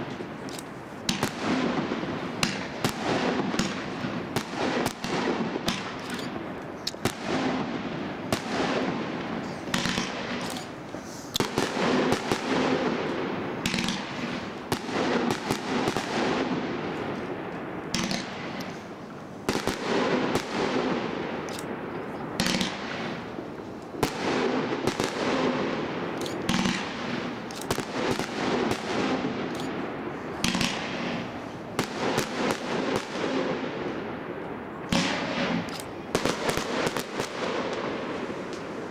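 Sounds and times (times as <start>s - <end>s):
firework crackling: 0.0s - 38.9s
firework shots and bursts: 0.0s - 38.9s.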